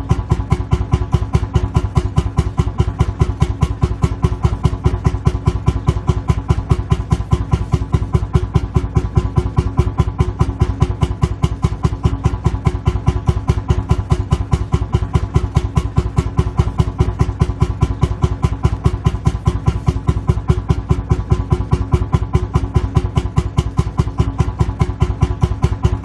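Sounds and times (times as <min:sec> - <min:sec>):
two-stroke engine idling: 0:00.0 - 0:26.0.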